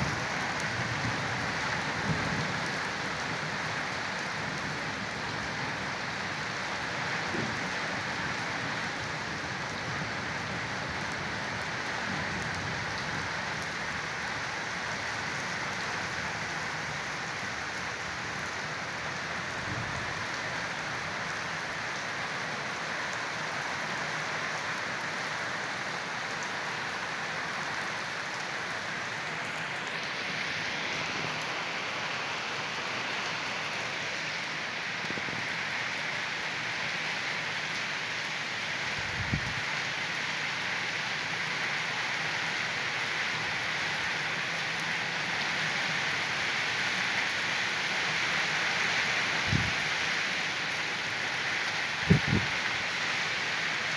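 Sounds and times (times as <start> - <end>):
heavy rain on concrete: 0.0 - 53.9.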